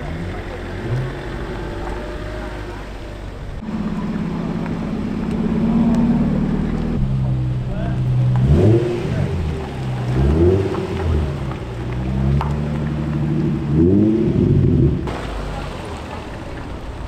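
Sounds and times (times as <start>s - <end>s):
car engine revving: 0.0s - 17.0s
car engine steady: 0.0s - 17.0s.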